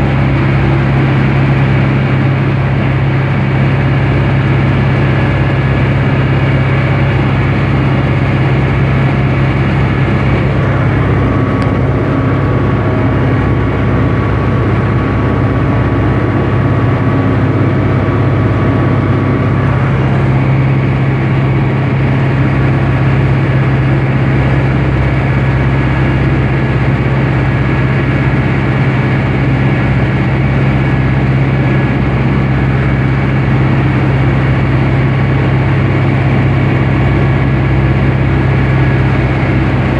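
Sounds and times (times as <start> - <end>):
tractor diesel engine drone: 0.0 - 39.9.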